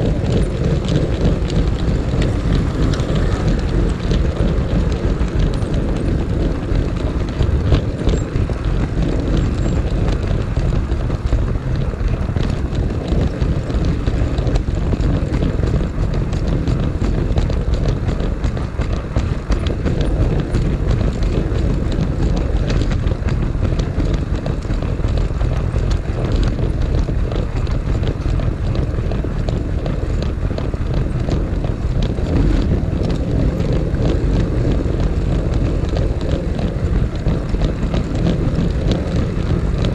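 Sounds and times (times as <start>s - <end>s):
model train wheels rumbling on rail: 0.0s - 39.9s.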